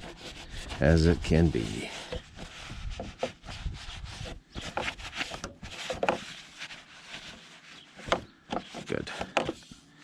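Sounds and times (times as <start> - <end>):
scratchy scrubbing strokes: 0.0 - 9.9.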